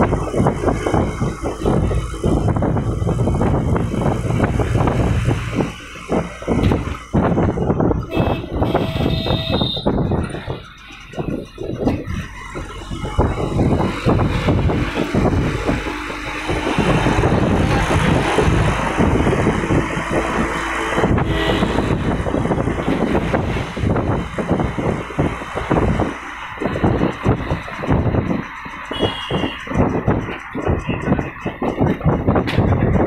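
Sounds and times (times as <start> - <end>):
cars passing on road: 0.0 - 33.0.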